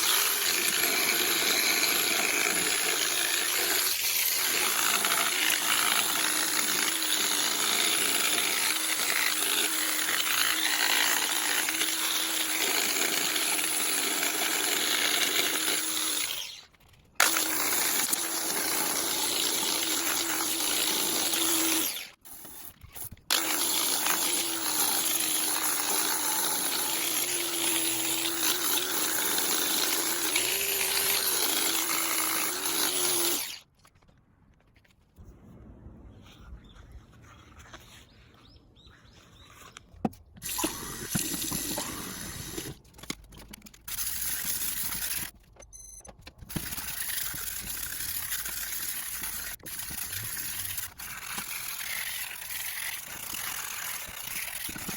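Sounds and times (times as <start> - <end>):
small power tool running: 0.0 - 33.6, 40.4 - 43.2, 43.8 - 45.4, 46.5 - 54.9.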